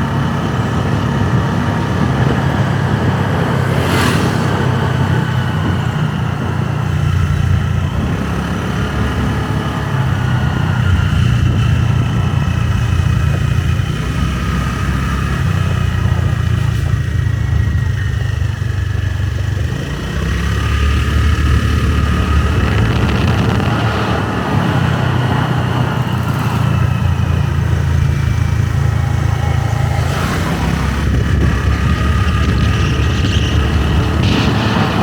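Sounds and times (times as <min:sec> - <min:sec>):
motorbike engine running: 0:00.0 - 0:35.0.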